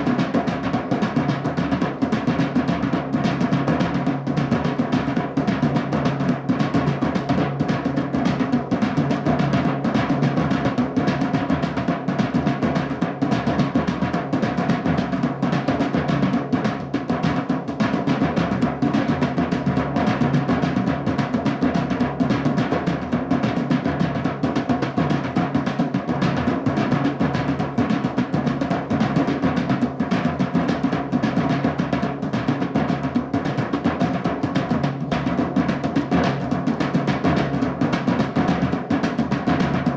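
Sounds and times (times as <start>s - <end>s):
drumming: 0.0s - 39.9s.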